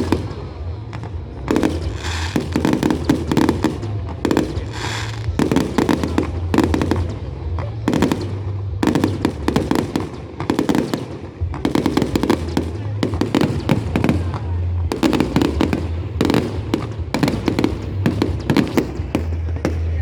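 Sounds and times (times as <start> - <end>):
firework shells bursting: 0.0 - 20.0
rapid crackling bangs: 0.0 - 20.0
steady low rumble: 0.0 - 20.0.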